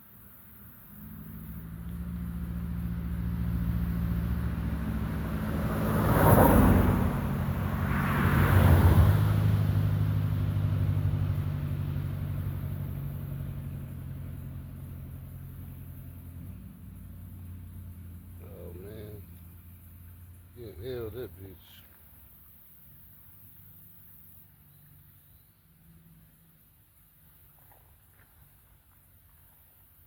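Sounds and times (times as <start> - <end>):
motor vehicle passing by: 0.6 - 28.5.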